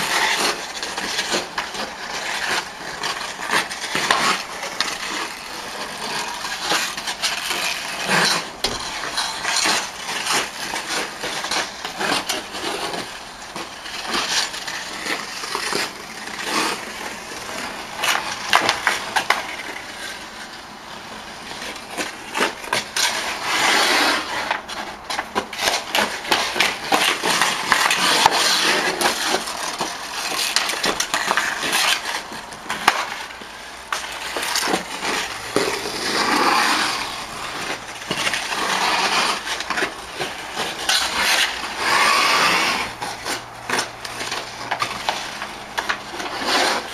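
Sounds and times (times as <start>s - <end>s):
hockey stick clacking puck: 0.0s - 46.9s
ice skates scraping ice: 0.0s - 46.9s.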